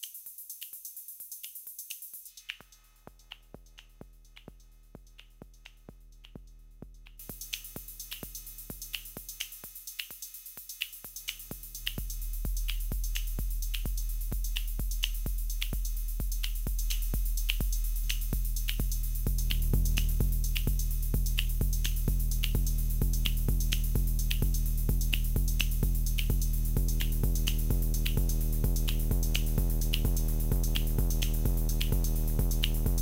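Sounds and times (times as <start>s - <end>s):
electronic drum machine beat: 0.0s - 33.0s
heavy kick and bass: 2.3s - 33.0s.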